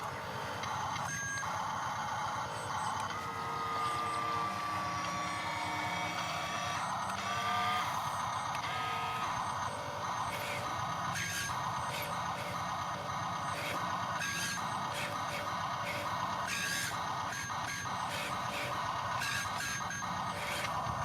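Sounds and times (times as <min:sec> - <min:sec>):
electric gear motors whining: 0:00.0 - 0:21.0.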